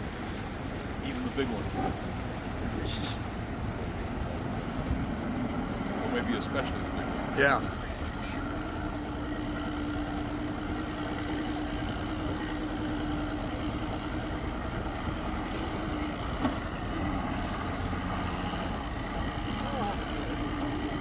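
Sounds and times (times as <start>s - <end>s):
outboard motor drone: 0.0s - 21.0s
wind and water rushing: 0.0s - 21.0s.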